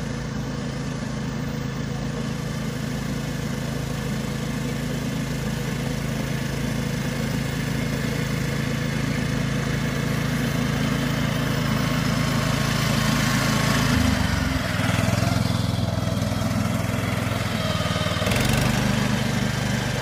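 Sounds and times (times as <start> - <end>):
mower petrol engine running: 0.0 - 20.0.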